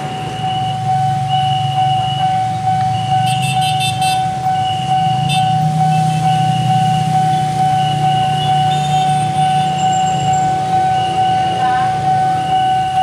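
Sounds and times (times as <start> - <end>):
level crossing warning alarm: 0.0 - 13.0
low rumble of engines: 0.0 - 13.0.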